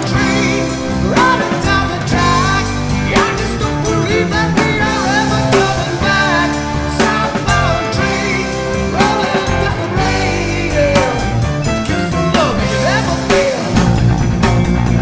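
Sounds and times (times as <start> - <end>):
drums: 0.0 - 15.0
heavy metal band playing: 0.0 - 15.0
sliding lead guitar line: 0.0 - 15.0.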